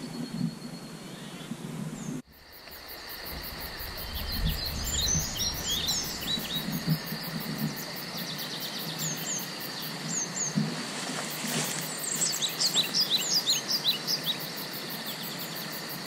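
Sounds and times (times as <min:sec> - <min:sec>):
small birds chirping: 0:00.0 - 0:10.6, 0:11.8 - 0:15.7
outdoor hiss: 0:02.2 - 0:16.0.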